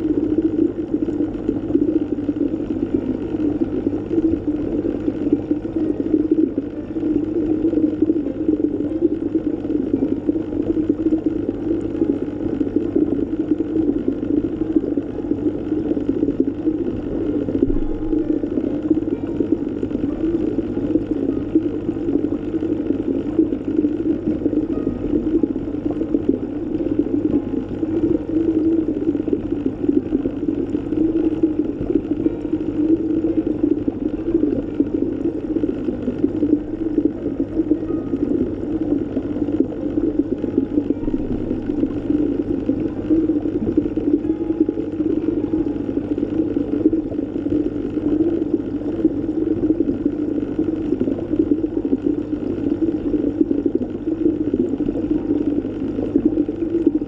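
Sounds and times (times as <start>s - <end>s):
dull underwater rushing: 0.0s - 57.0s.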